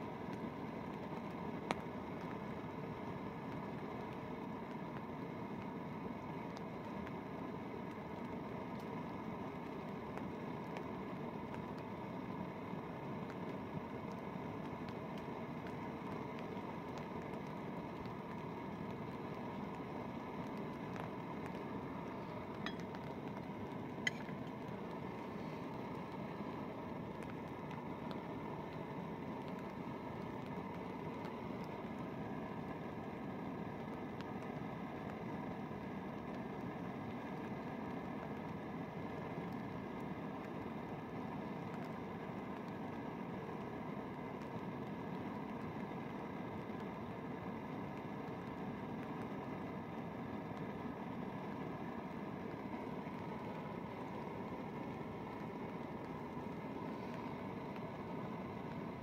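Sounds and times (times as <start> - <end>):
gas stove burning hiss: 0.0 - 59.0.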